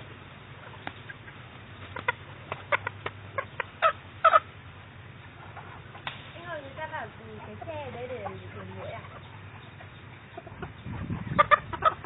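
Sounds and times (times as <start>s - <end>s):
steady low hum: 0.0s - 12.0s
chicken clucking: 0.5s - 4.5s, 5.2s - 6.1s, 7.2s - 12.0s.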